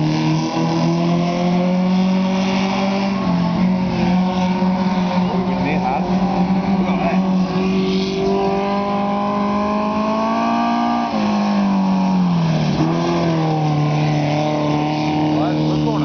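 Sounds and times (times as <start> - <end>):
race car engine passing by: 0.0 - 16.0.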